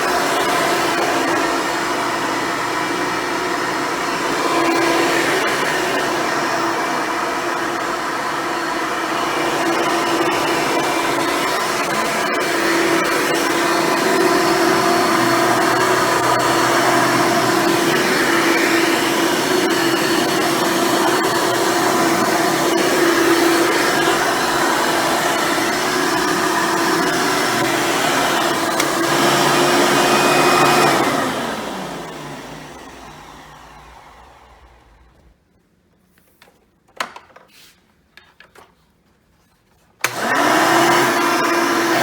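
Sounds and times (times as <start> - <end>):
vacuum cleaner running: 0.0 - 35.4, 40.0 - 42.0
vacuum motor winding down: 0.0 - 35.4, 40.0 - 42.0.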